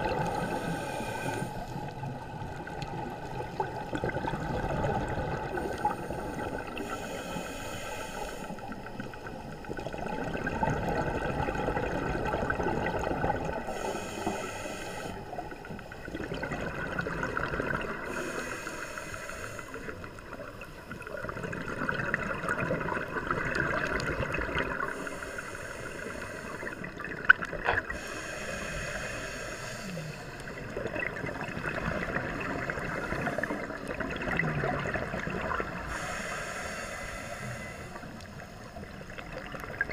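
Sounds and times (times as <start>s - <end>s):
underwater exhaled bubbles: 0.0s - 39.9s
watery rumble: 0.0s - 39.9s.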